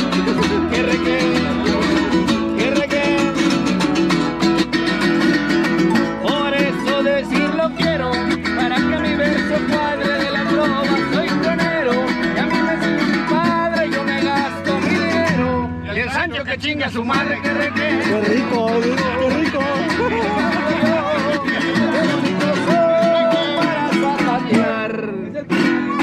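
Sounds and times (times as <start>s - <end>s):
man singing: 0.0s - 26.0s
strummed small guitars: 0.0s - 26.0s.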